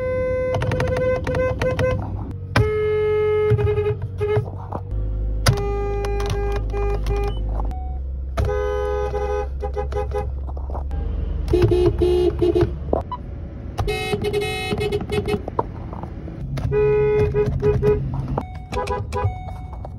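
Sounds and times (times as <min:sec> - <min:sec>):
car horns beeping and honking: 0:00.0 - 0:19.9.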